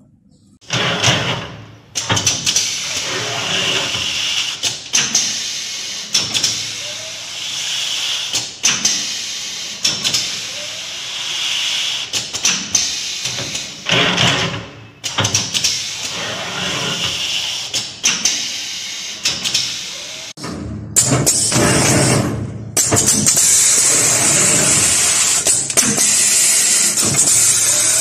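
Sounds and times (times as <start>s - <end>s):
air cylinders clacking: 0.6s - 28.0s.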